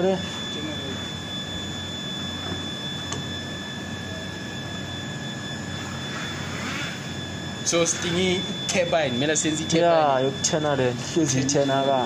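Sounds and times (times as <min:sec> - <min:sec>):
machine humming with high whine: 0:00.0 - 0:12.0.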